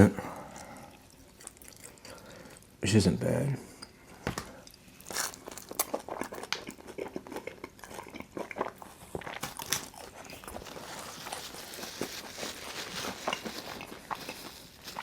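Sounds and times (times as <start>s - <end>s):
chewing crunches: 0.5s - 2.7s, 4.6s - 15.0s.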